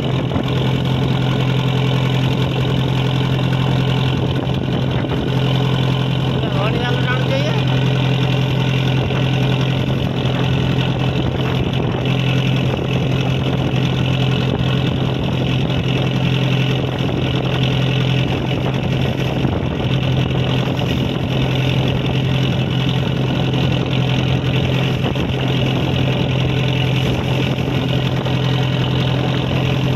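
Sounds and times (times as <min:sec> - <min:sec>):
boat engine humming: 0:00.0 - 0:29.9.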